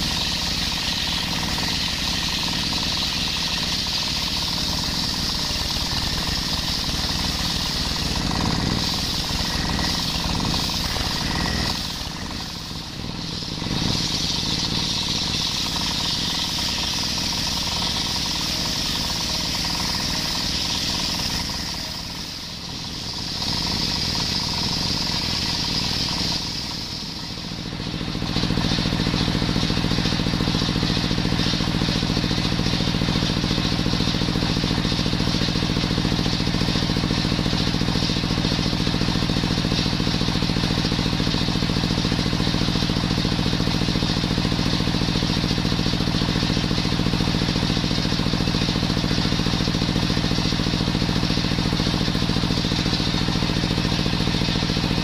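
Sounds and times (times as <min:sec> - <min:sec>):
circular saw cutting wood: 0:00.0 - 0:55.0
engine running: 0:00.0 - 0:55.0.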